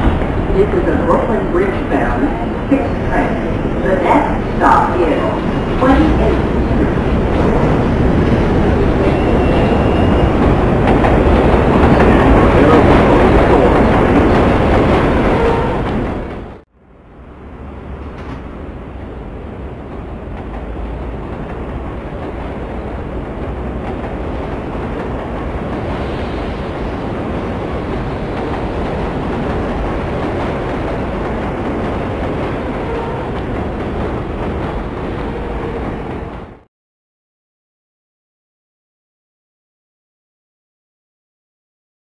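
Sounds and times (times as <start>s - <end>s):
subway train rumble: 0.0s - 36.7s.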